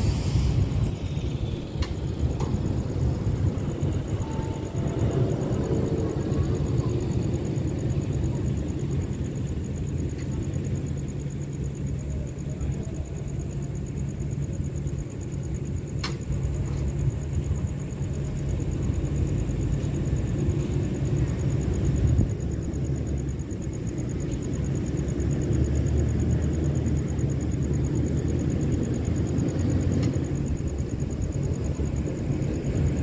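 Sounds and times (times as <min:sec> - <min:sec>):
diesel train idling: 0:00.0 - 0:33.0.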